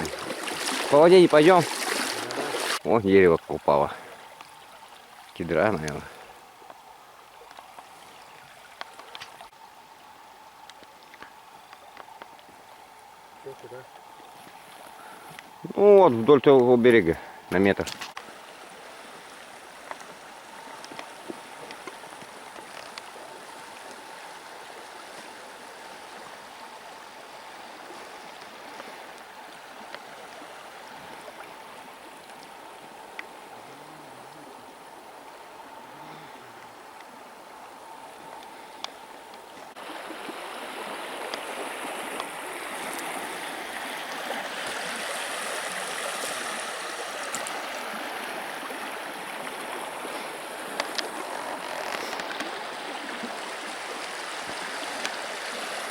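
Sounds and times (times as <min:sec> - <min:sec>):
river water rushing and gurgling: 0:00.0 - 0:55.9.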